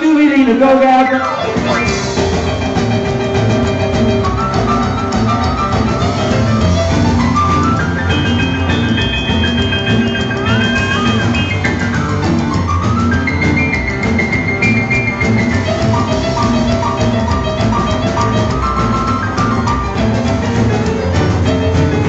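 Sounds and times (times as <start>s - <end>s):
drum kit steady beat: 0.0s - 22.0s
electric piano solo: 1.0s - 22.0s.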